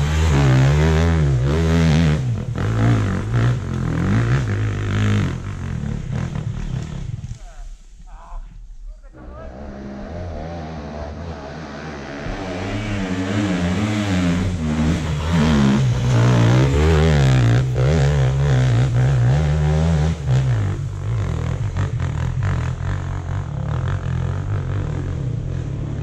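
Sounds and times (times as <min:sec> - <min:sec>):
dirt bike engine revving: 0:00.0 - 0:07.4, 0:09.2 - 0:26.0.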